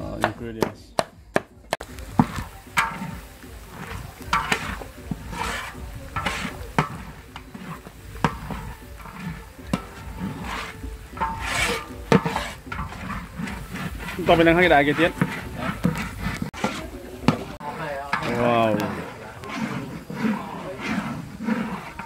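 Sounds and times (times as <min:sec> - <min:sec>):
spatula scraping metal wok: 0:01.8 - 0:22.0.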